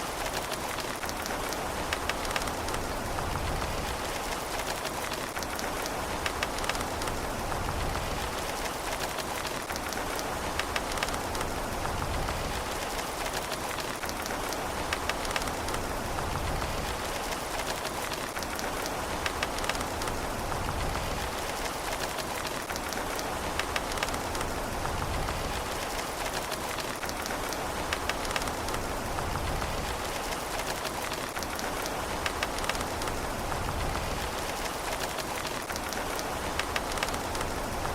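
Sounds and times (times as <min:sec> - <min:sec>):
steady rain pattering: 0:00.0 - 0:37.9.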